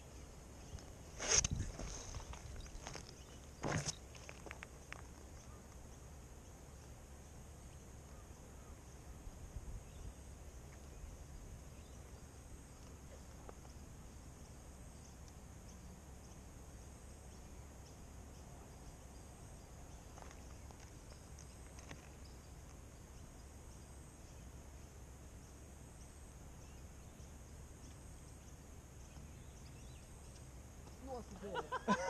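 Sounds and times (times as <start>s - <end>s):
faint high hum: 0.0s - 32.0s.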